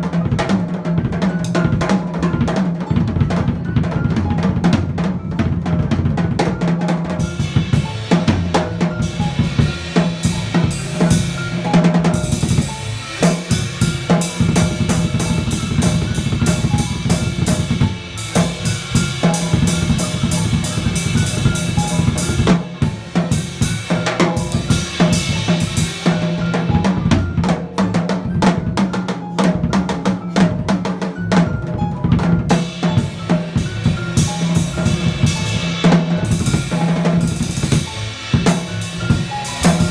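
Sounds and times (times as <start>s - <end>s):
jazz drum kit: 0.0s - 39.9s
upright bass notes: 0.0s - 39.9s.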